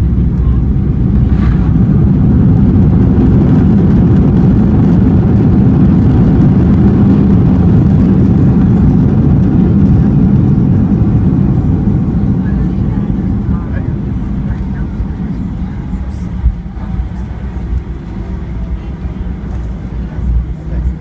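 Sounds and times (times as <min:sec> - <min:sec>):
airplane cabin low rumble: 0:00.0 - 0:21.0.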